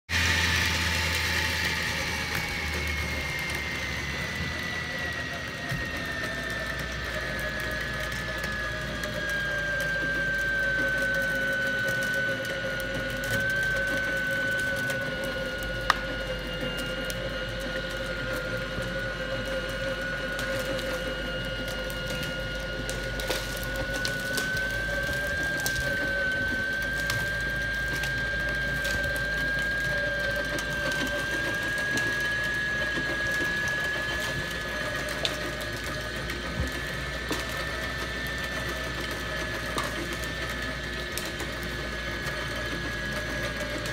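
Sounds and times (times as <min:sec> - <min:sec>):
winch motor whining: 0:00.1 - 0:43.9.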